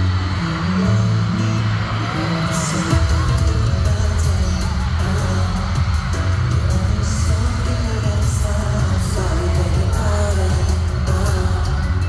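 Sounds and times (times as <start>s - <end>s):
man singing into a microphone: 0.0s - 12.0s
pop backing track with heavy bass: 0.0s - 12.0s.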